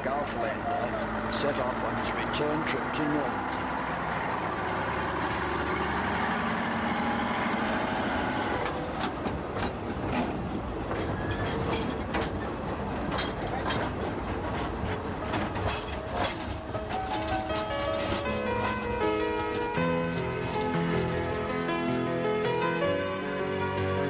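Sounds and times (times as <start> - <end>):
rail motor engine rumbling: 0.0 - 24.0
wheels clicking over rail joints: 0.0 - 24.0.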